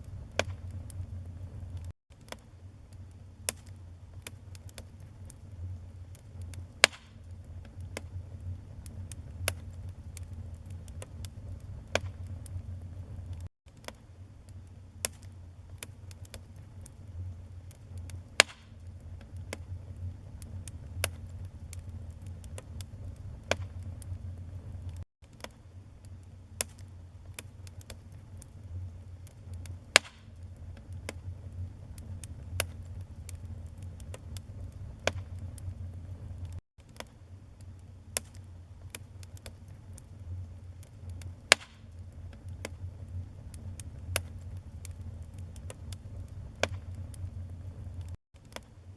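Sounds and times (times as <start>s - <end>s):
logs crackling in fireplace: 0.0s - 48.9s
low steady fire rumble: 0.0s - 48.9s.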